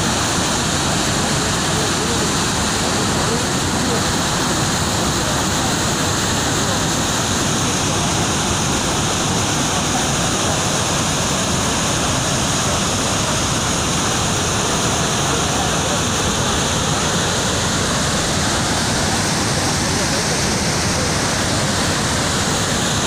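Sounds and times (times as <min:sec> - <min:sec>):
water rushing down spillway: 0:00.0 - 0:23.0.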